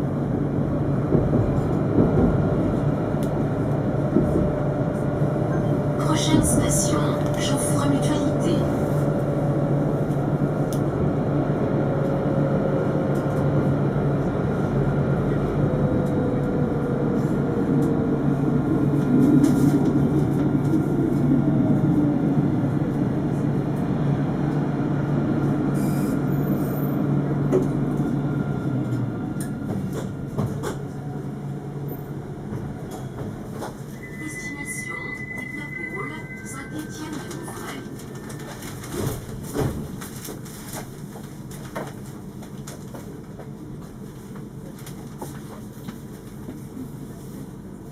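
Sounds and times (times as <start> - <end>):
tram rumbling on rails: 0.0 - 47.9.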